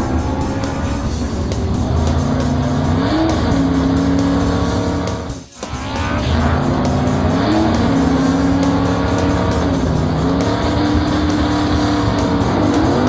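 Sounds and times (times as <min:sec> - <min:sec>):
background music: 0:00.0 - 0:13.0
cartoon race car engine revving: 0:00.0 - 0:13.0.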